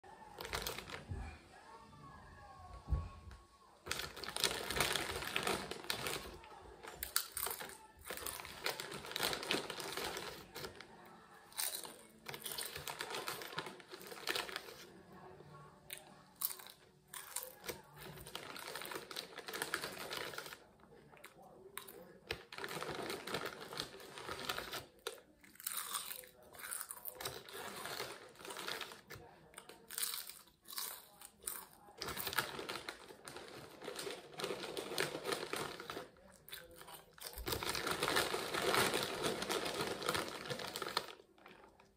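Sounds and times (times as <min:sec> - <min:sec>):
plastic chip bag crinkling: 0:00.3 - 0:01.2, 0:03.8 - 0:15.0, 0:16.0 - 0:41.9
chips being chewed: 0:03.9 - 0:10.8, 0:11.4 - 0:14.8, 0:15.9 - 0:41.9.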